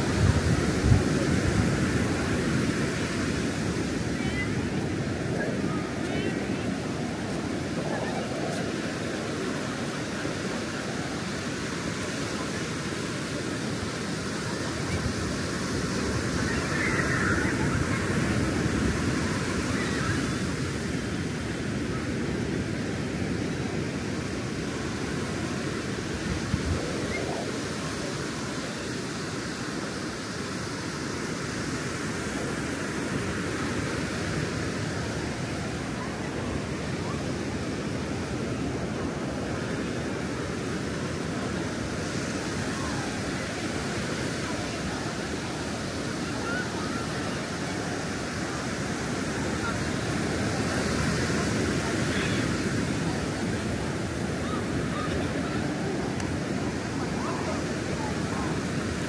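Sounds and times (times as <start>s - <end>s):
surf breaking on a beach: 0.0s - 59.0s.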